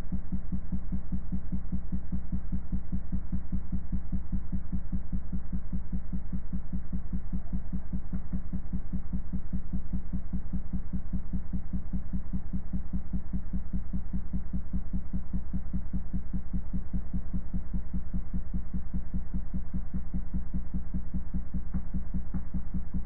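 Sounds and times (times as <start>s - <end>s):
pulsing low-pitched tone: 0.0s - 23.0s.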